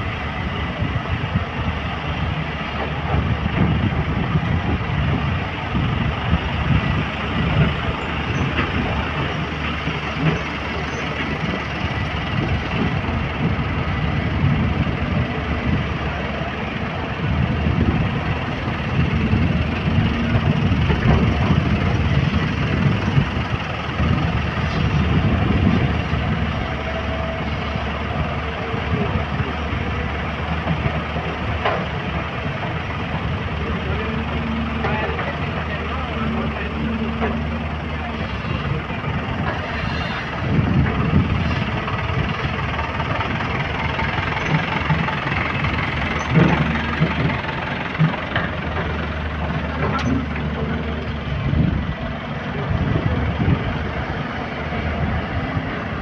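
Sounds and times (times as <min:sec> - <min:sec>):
dump trucks idling: 0:00.0 - 0:56.0
excavator engine digging: 0:00.0 - 0:56.0.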